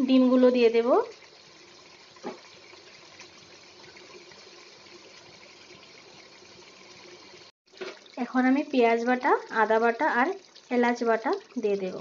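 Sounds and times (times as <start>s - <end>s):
gravy simmering and bubbling: 0.6s - 12.0s.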